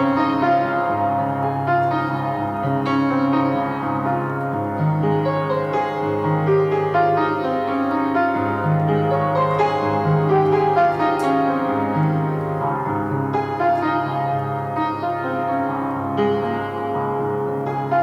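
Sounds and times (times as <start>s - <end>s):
calm piano music: 0.0s - 18.0s.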